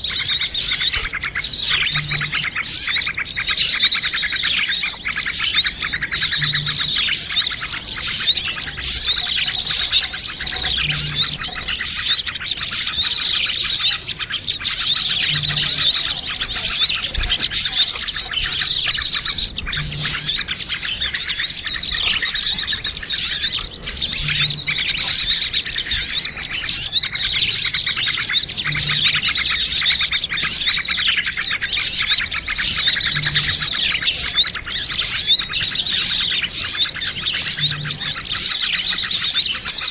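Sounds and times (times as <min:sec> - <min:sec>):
small birds chattering and chirping: 0:00.0 - 0:39.9.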